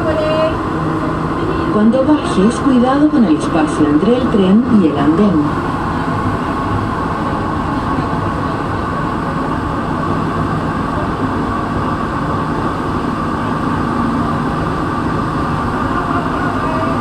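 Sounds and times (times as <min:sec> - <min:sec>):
constant hum: 0:00.0 - 0:17.0
train running at speed: 0:00.0 - 0:17.0.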